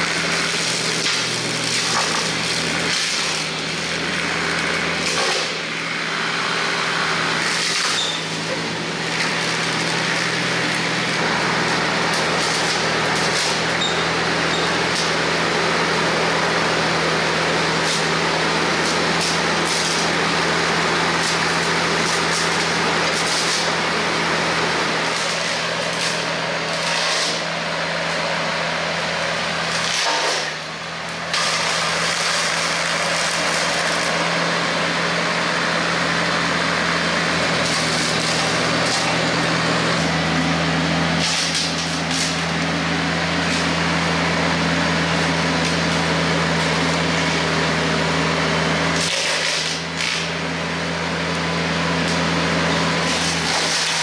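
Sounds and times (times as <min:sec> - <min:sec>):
rotary cutter shredding brush: 0:00.0 - 0:54.0
tractor diesel engine running: 0:00.0 - 0:54.0.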